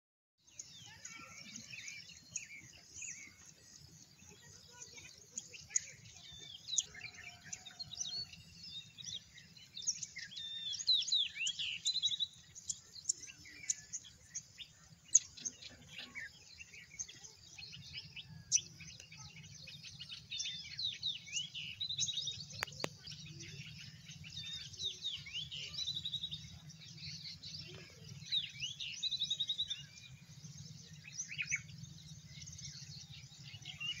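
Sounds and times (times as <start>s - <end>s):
wild birds chirping: 0.4s - 34.0s.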